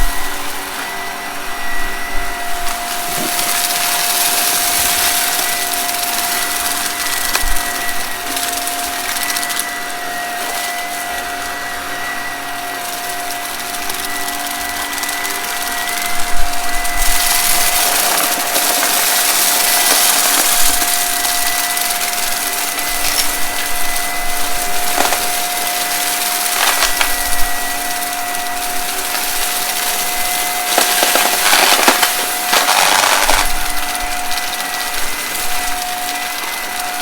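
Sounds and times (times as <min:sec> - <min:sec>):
vacuum cleaner running: 0:00.0 - 0:37.0
crackles of debris: 0:02.6 - 0:37.0.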